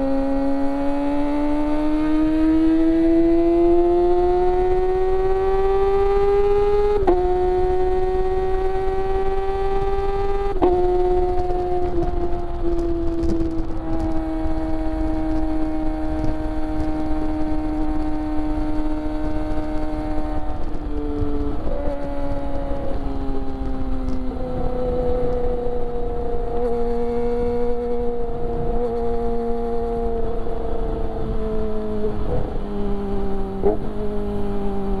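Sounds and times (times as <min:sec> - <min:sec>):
motorcycle engine revving high: 0:00.0 - 0:35.0.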